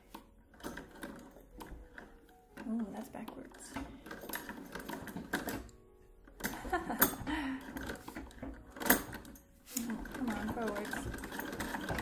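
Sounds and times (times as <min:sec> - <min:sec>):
sewing machine clicking and clacking: 0:00.0 - 0:12.0.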